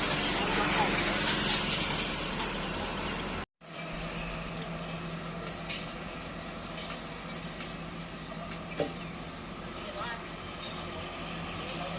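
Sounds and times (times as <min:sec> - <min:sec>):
construction machinery engine running: 0:00.0 - 0:11.9.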